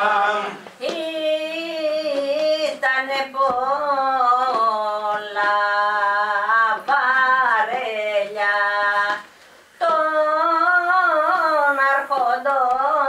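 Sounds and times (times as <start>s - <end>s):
woman singing a folk song: 0.8s - 13.0s.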